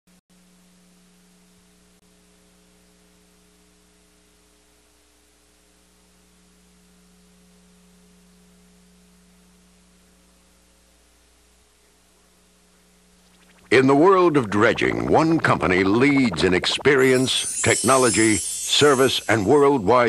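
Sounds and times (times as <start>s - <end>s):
faint electrical hum: 0.3s - 20.0s
soft hiss: 0.4s - 20.0s.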